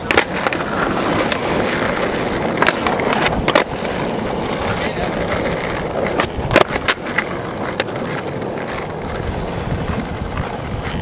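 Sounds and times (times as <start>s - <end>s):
skateboard clacks: 0.0s - 11.0s
skateboard wheels rolling on asphalt: 0.0s - 11.0s.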